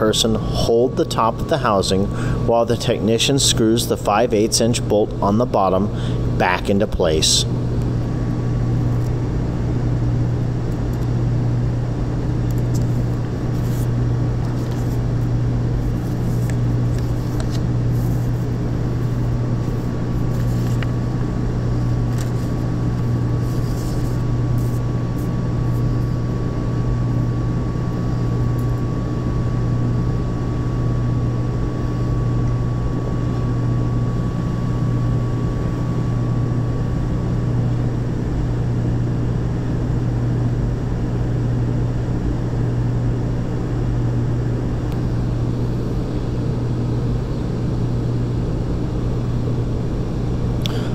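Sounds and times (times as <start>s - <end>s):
industrial machinery humming: 0.0s - 50.9s.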